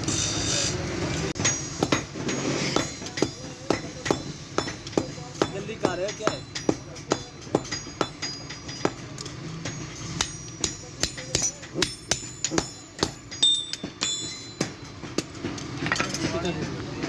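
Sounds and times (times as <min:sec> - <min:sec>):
hammer ringing on anvil: 0:01.4 - 0:15.4.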